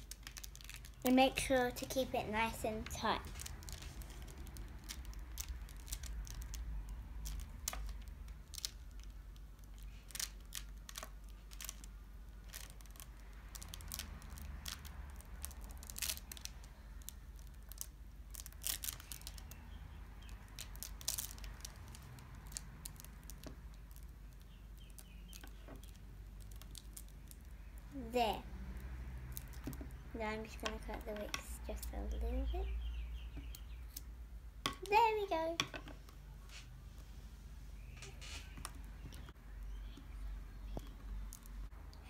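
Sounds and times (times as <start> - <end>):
wax crackling under fingers: 0.0 - 32.6, 37.8 - 42.0.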